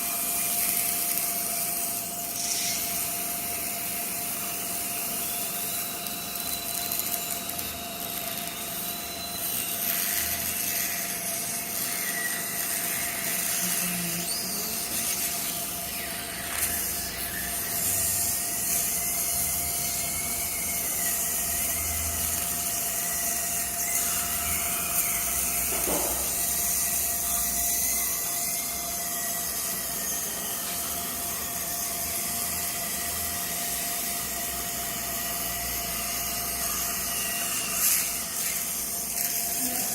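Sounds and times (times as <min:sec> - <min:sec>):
dental drill whine: 0:00.0 - 0:39.9.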